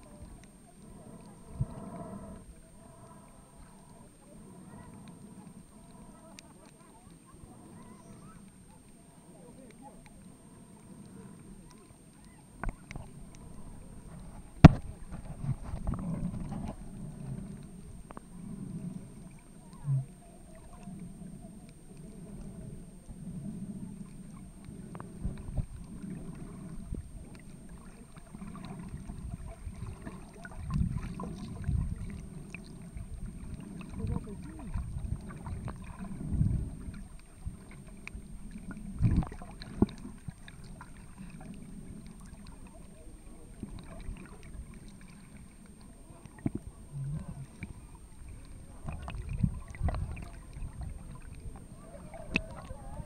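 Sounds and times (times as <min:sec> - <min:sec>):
faint clicks and crackles: 0:00.0 - 0:53.0
underwater water rumble: 0:00.0 - 0:53.0.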